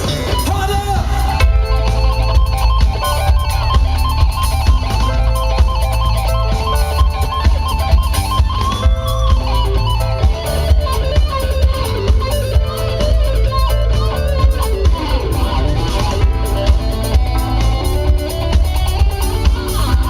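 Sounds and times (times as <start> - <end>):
electric guitar melody: 0.0 - 20.0
heavy bass line: 0.0 - 20.0
steady drum beat: 0.0 - 20.0.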